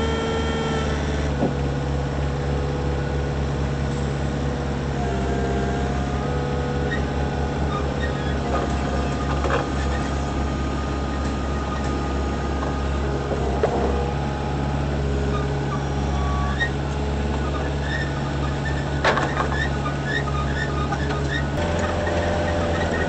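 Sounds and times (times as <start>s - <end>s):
forklift engine running: 0.0s - 23.0s.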